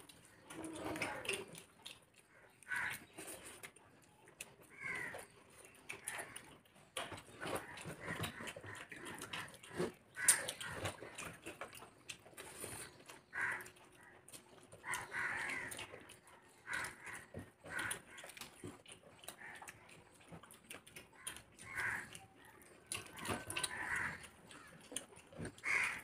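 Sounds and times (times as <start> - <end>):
fingers mixing rice on plates: 0.0 - 26.0
wet chewing and mouth noises: 0.0 - 26.0.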